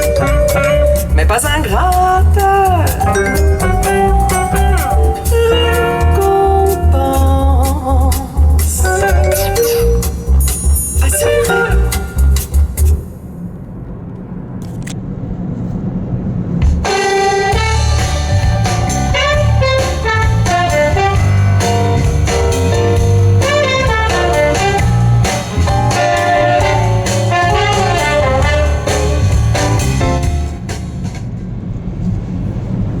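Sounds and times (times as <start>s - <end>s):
instrumental music with bass and drums: 0.0s - 13.0s, 16.6s - 31.3s.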